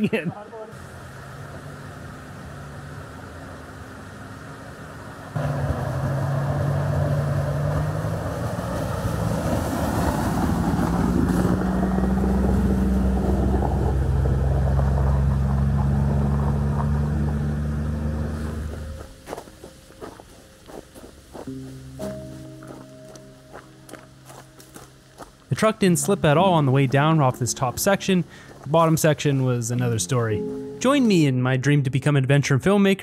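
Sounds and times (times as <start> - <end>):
truck engine hum: 0.0 - 31.3
tyre road noise: 0.0 - 31.3.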